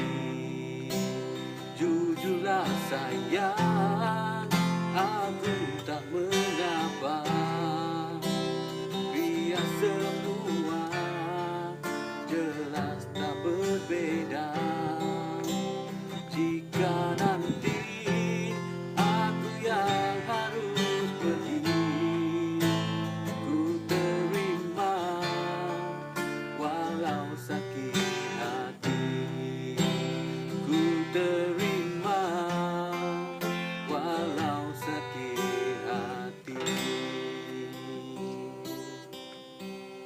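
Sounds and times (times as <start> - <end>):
acoustic guitar strummed: 0.0 - 40.0.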